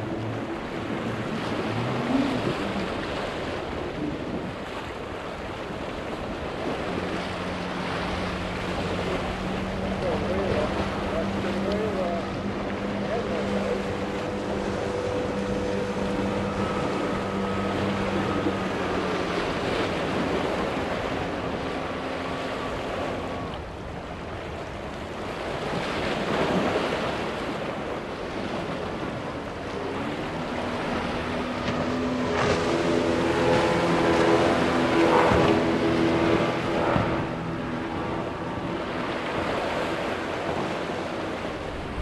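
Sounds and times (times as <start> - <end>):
outboard motors running: 0.0 - 42.0
wind on microphone: 0.0 - 42.0.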